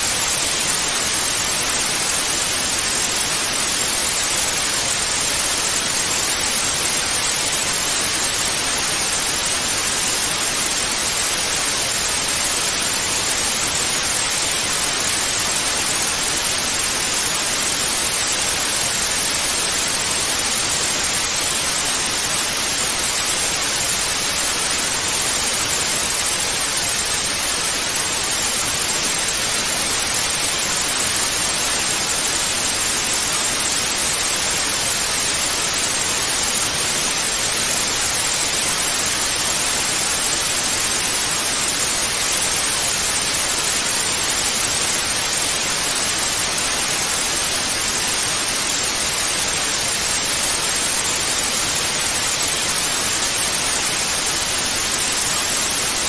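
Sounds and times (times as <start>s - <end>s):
tv static hiss: 0.0s - 56.0s.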